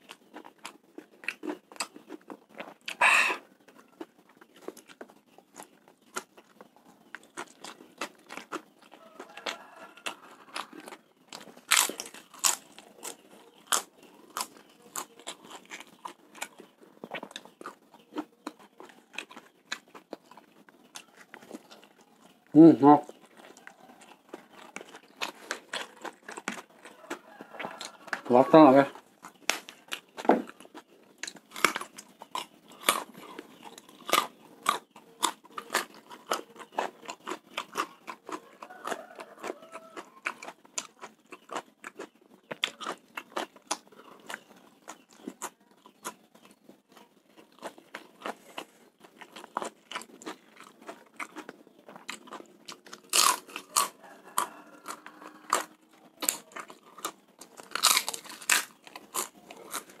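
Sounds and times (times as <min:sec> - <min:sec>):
crunching and chewing food: 0:00.0 - 1:00.0.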